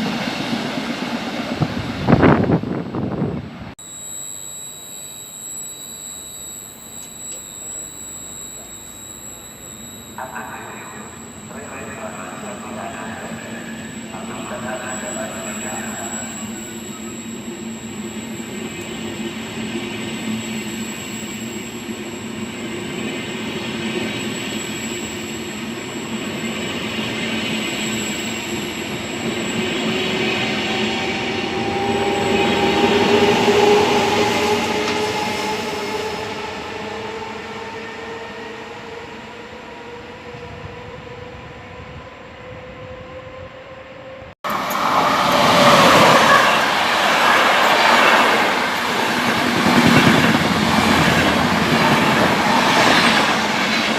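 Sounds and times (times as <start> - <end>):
electric train motors whining: 3.8 - 53.9.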